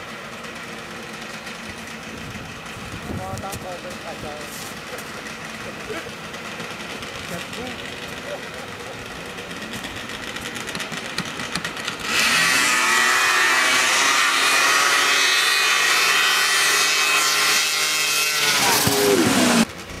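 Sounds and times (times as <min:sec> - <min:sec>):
snowmobile engines revving: 0:00.0 - 0:20.0.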